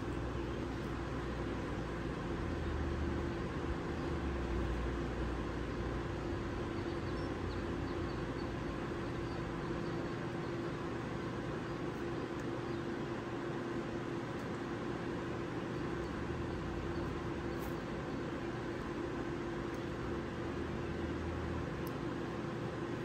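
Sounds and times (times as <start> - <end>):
air conditioners droning: 0.0 - 23.0.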